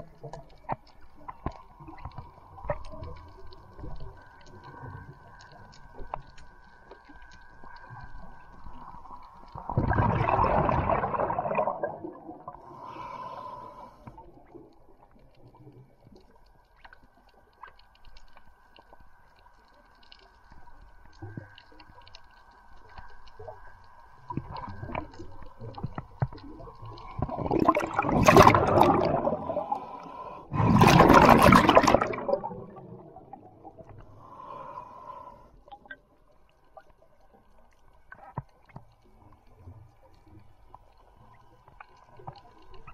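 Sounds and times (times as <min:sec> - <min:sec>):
underwater rushing water: 0:00.0 - 0:42.9.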